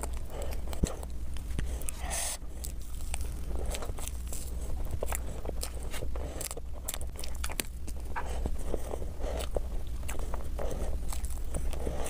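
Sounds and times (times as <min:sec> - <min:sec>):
low steady hum: 0:00.0 - 0:12.0
person chewing cake: 0:00.0 - 0:12.0.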